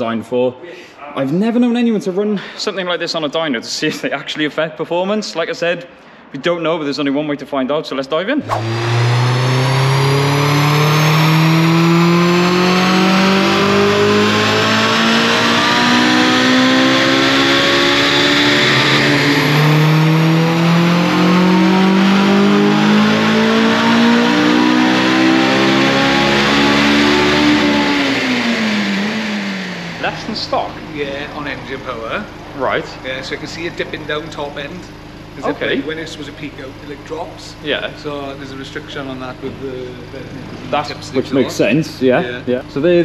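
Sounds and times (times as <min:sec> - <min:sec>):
car engine revving at full throttle: 0:08.4 - 0:43.0.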